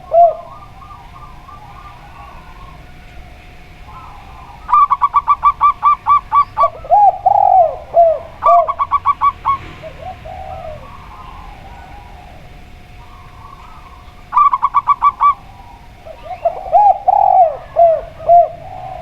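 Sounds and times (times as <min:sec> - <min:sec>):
dove low drawn-out coos: 0:00.0 - 0:19.0
dove ringing notes: 0:00.0 - 0:19.0.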